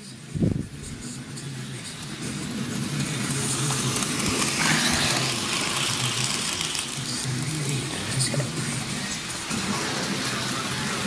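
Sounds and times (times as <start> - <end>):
wheels whirring on rail: 0.0 - 11.0
model train motor hum: 1.0 - 11.0.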